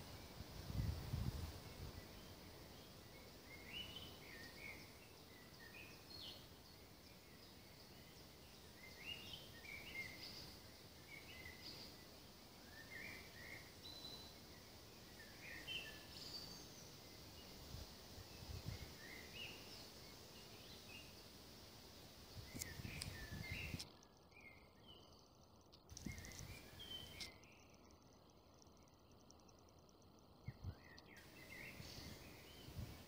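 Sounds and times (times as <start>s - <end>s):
low steady hiss: 0.0s - 33.0s
songbird chirping: 1.5s - 33.0s.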